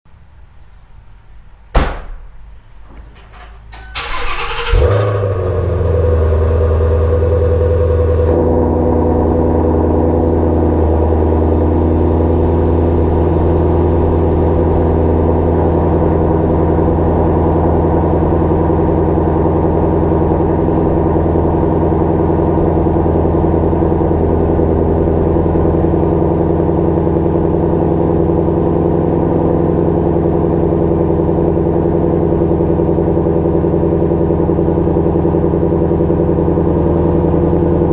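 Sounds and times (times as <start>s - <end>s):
car engine idling: 3.1s - 37.9s.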